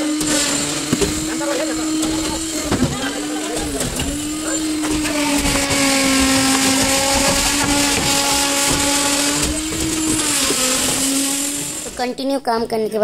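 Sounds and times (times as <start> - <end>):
motor humming: 0.0 - 12.8.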